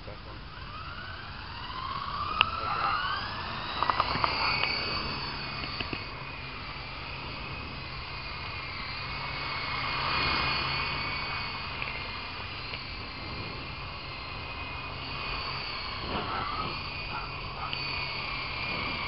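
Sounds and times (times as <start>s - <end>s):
helicopter rotors whining: 0.0s - 19.0s.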